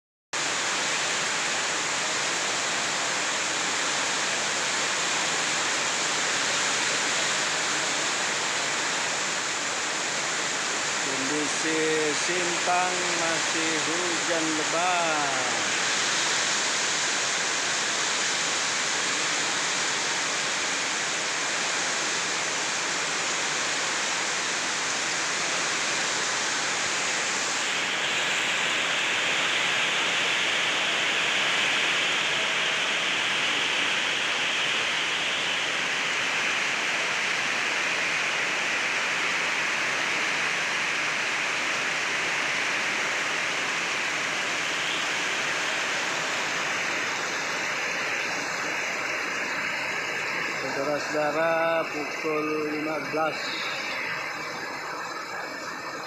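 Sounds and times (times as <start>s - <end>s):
heavy rain pouring: 0.4s - 56.0s.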